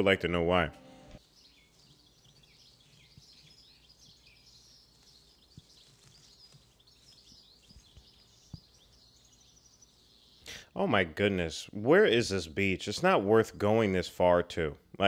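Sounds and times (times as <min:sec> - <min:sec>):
faint birdsong: 0:00.0 - 0:15.0
low outdoor hush: 0:00.0 - 0:15.0.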